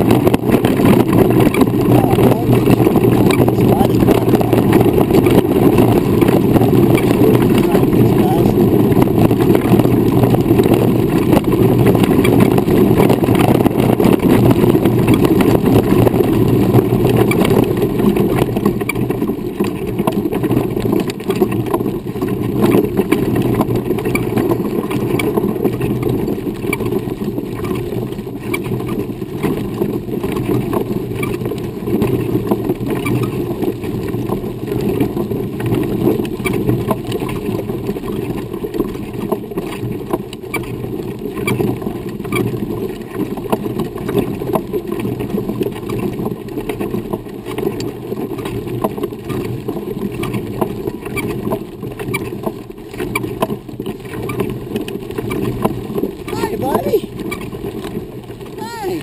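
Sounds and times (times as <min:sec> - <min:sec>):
wheels rolling over gravel: 0:00.0 - 0:59.0.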